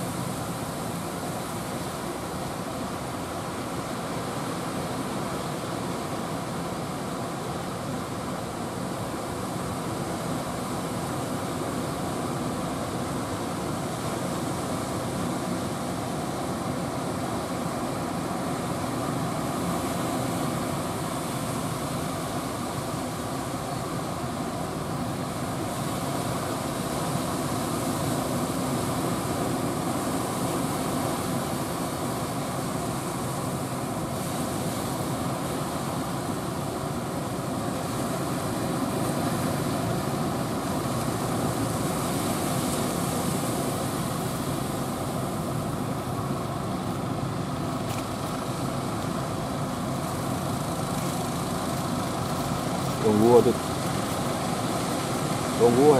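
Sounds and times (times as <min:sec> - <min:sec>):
outboard boat engines: 0:00.0 - 0:55.9
waves breaking: 0:00.0 - 0:55.9.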